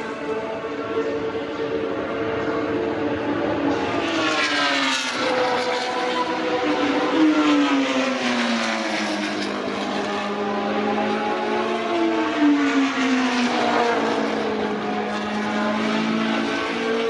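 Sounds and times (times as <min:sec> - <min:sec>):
racing cars passing at speed: 0:00.0 - 0:17.0.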